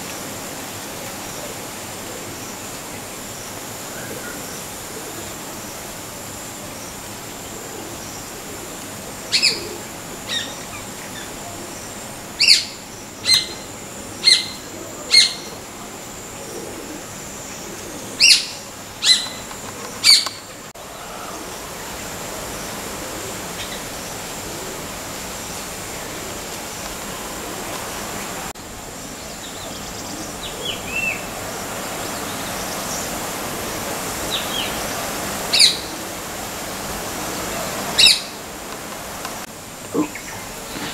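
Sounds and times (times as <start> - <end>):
steady outdoor hiss: 0.0 - 40.9.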